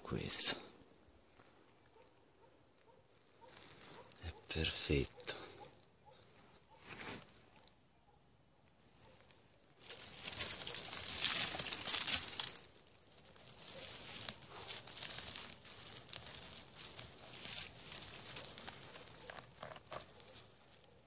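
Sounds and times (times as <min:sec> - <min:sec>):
twigs and leaves rustling and crackling: 0:01.2 - 0:07.8, 0:08.7 - 0:21.0.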